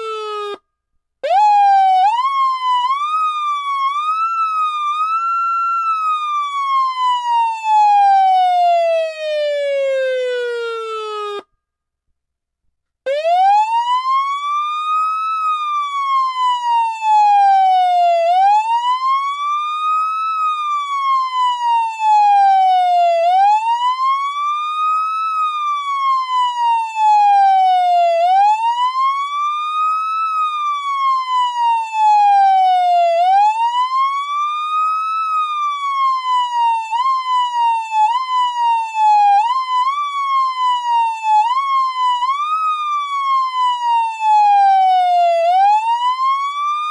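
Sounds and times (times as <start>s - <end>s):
electronic siren wailing: 0.0s - 0.6s, 1.2s - 11.4s, 13.1s - 46.9s.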